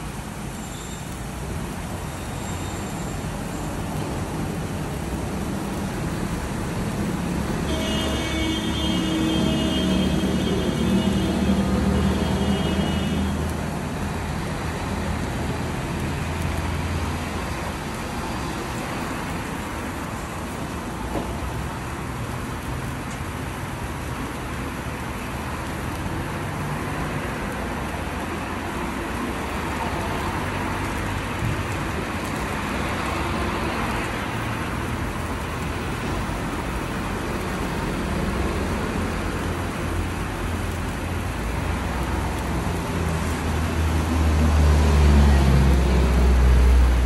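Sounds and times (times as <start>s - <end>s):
low traffic rumble: 0.0s - 47.0s
sparkler fizzing hiss: 0.0s - 47.0s.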